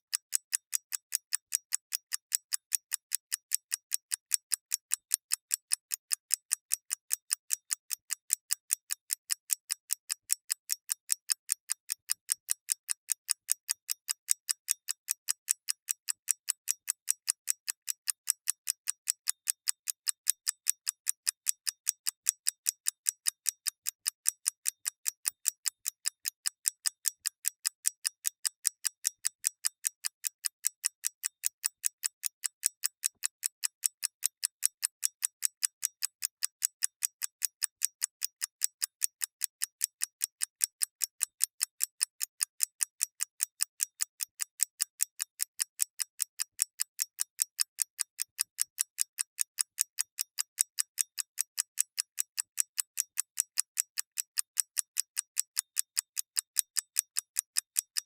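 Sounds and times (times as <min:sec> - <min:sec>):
clock ticking: 0:00.1 - 0:58.0.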